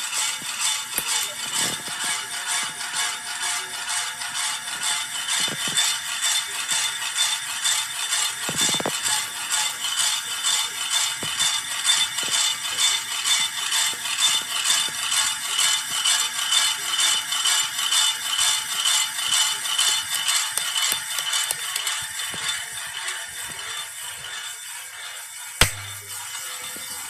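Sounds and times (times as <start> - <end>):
ceiling fan rattling: 0.0 - 27.0.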